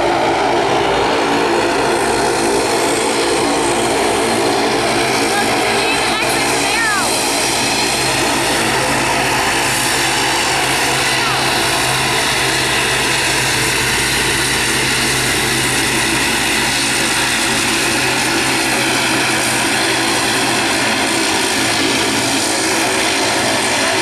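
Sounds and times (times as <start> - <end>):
turboprop engines droning: 0.0 - 24.0.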